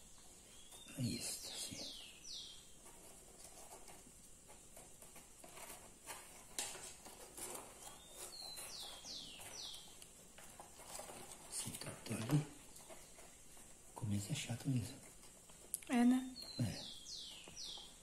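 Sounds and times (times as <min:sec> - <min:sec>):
straws rustling and clicking: 0:02.8 - 0:18.0.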